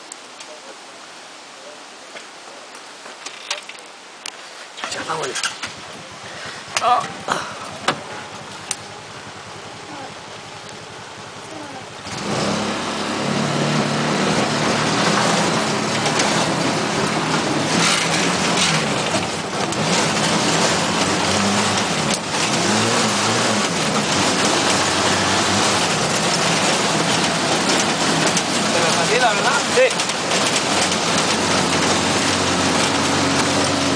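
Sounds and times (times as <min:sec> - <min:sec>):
small engine revving: 0:05.3 - 0:33.9.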